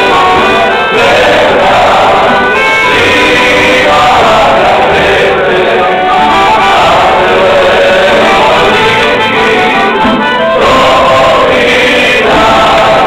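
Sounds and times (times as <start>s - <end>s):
folk band playing with guitar: 0.0s - 13.0s.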